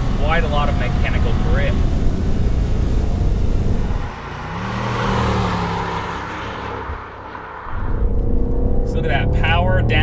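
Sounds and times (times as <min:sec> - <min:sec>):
wind and road rumble: 0:00.0 - 0:10.0.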